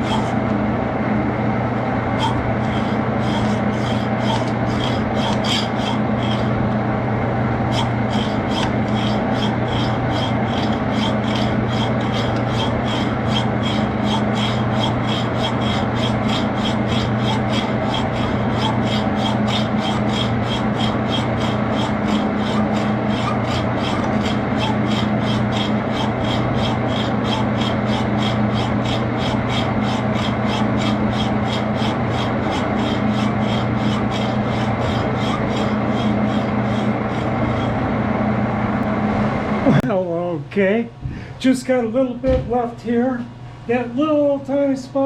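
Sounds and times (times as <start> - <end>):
tool scraping spinning steel: 0.0 - 0.6, 1.9 - 38.9
lathe humming: 0.0 - 39.8.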